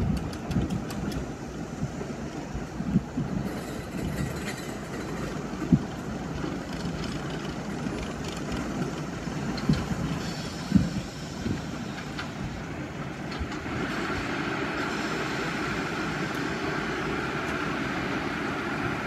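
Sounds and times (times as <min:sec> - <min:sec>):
subway train rumbling on track: 0:00.0 - 0:19.0.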